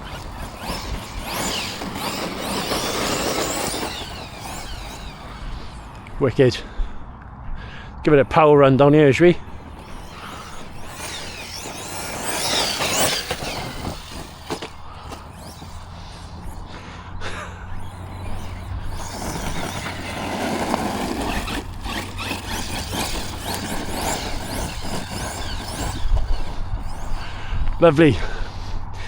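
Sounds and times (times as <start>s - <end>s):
rc truck motor whining: 0.0s - 29.0s
rough noisy driving: 0.0s - 29.0s.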